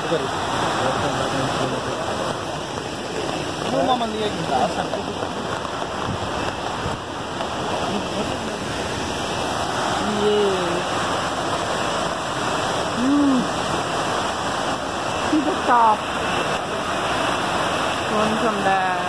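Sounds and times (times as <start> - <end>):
heavy rain on umbrellas: 0.0 - 19.0
waterfall rushing: 0.0 - 19.0.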